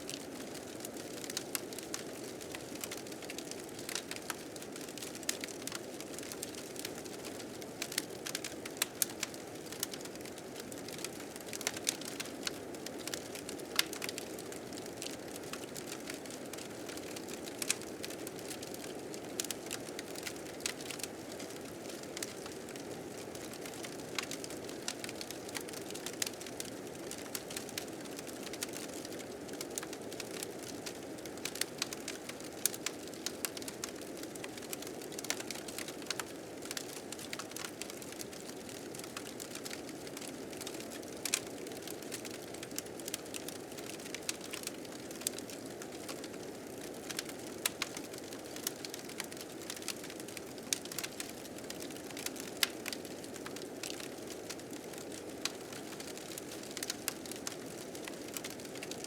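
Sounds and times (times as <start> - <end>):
fire crackling and popping: 0.1 - 59.0.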